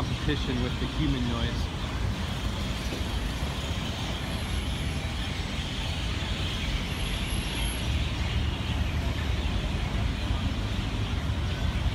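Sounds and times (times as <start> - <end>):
city traffic rumble: 0.0 - 11.9
flock of birds chattering: 0.0 - 11.9.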